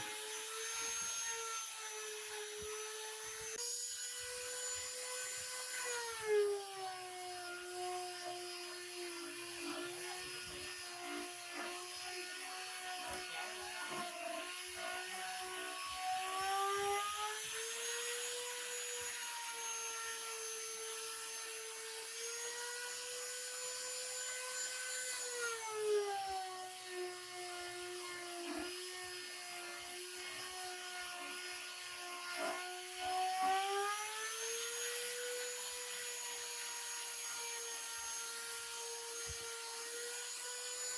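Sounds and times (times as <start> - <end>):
electric power tool on wood: 0.0 - 40.9.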